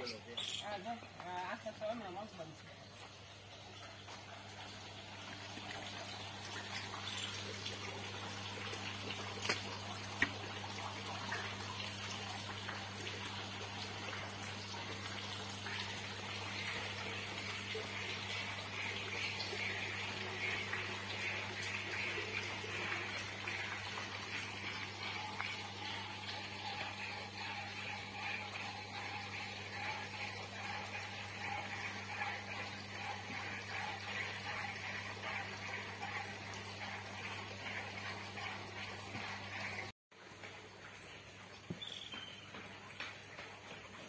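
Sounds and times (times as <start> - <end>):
water pouring into well: 0.0 - 39.9.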